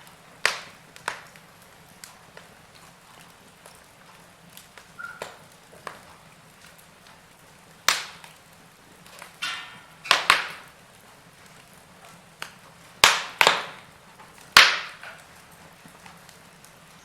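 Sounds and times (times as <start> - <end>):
fire hissing: 0.0 - 17.0
wood fire crackling: 0.0 - 17.0.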